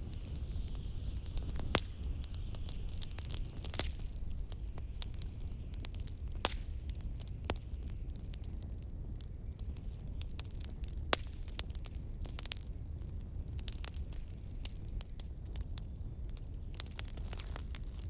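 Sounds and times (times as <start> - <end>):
log fire crackling and popping: 0.0 - 18.0.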